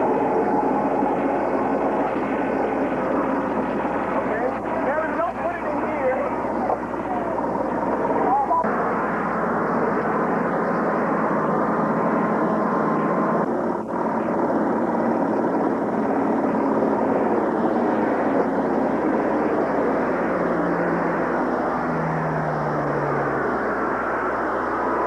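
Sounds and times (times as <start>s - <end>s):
turboprop aircraft engine drone: 0.0s - 25.0s.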